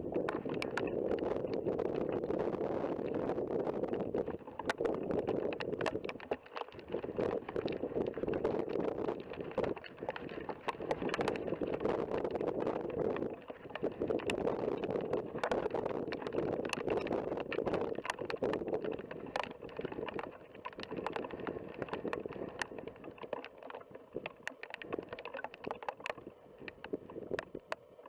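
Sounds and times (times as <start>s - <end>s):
wind gusting on microphone: 0.0s - 27.7s
sharp ticks: 0.1s - 27.9s.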